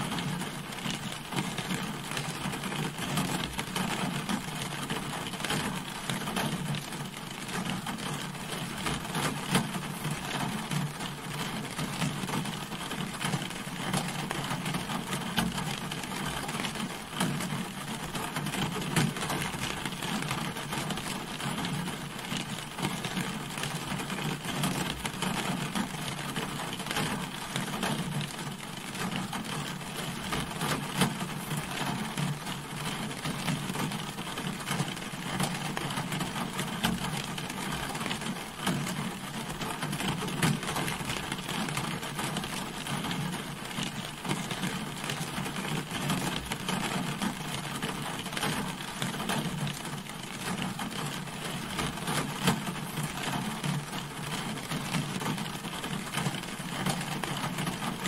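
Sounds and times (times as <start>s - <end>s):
rain falling on a car: 0.0s - 58.0s.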